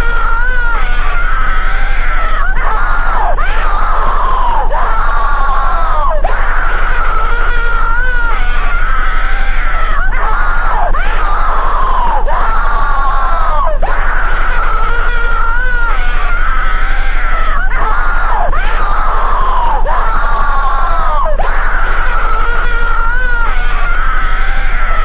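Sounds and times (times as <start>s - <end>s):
steady low hum: 0.0s - 25.0s
wavering alarm tones: 0.0s - 25.0s.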